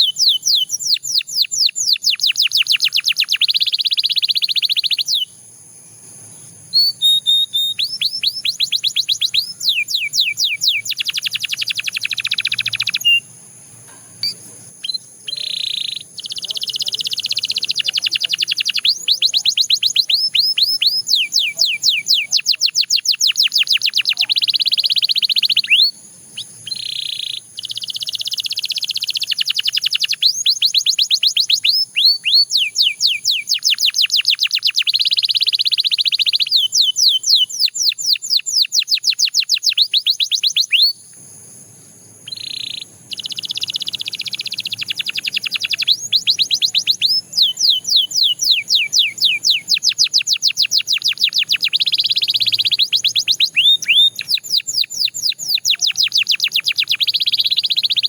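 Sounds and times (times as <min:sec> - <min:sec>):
canary singing: 0:00.0 - 0:05.5, 0:06.4 - 0:41.1, 0:42.2 - 0:58.0.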